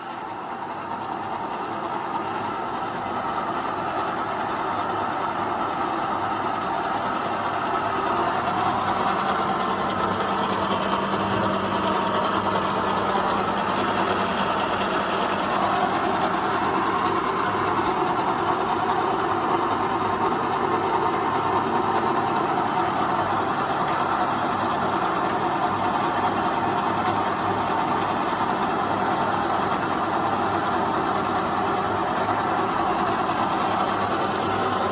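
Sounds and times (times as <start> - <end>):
milling machine humming: 0.6 - 34.9.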